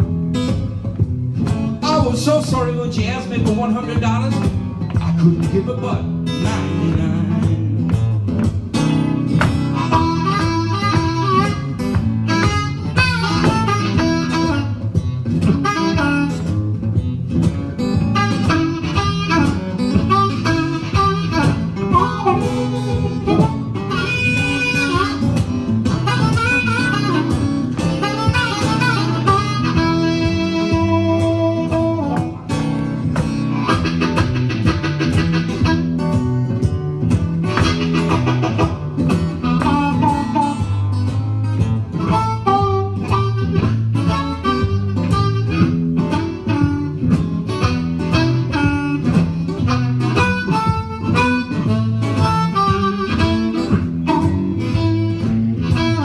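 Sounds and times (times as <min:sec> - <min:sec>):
acoustic guitar accompaniment: 0:00.0 - 0:56.0
blues harmonica solo: 0:04.4 - 0:07.1, 0:07.9 - 0:56.0.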